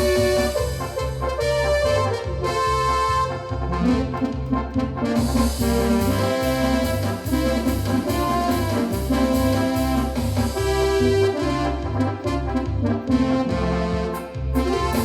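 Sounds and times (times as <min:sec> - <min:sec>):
pulsing bass line: 0:00.0 - 0:15.0
synthesizer brass chords: 0:00.0 - 0:15.0.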